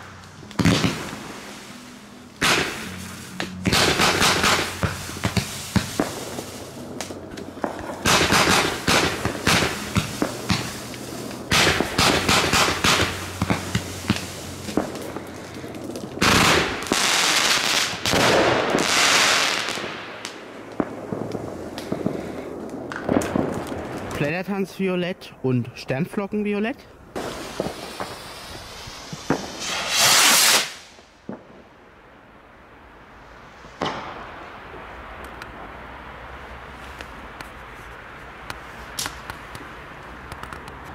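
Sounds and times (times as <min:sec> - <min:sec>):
fireworks bangs: 0:00.0 - 0:24.8, 0:26.0 - 0:31.8, 0:33.2 - 0:37.5
fireworks crackling: 0:00.0 - 0:40.9.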